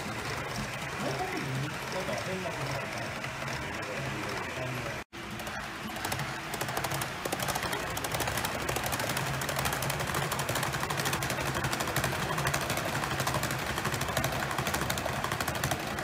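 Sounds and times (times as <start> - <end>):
model train wheels clattering: 0.0 - 16.0.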